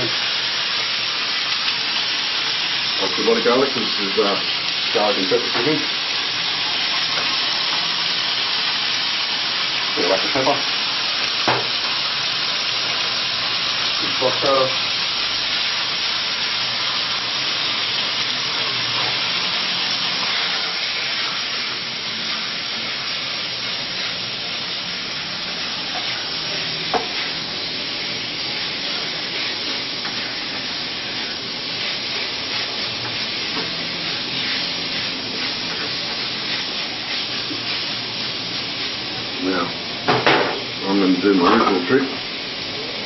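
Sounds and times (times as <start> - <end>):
food sizzling in a wok: 0.0 - 43.0.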